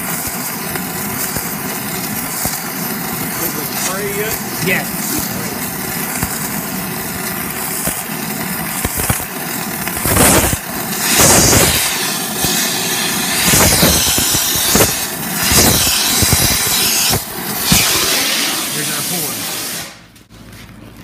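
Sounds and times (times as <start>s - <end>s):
gas torch flame blasting: 0.0s - 20.3s.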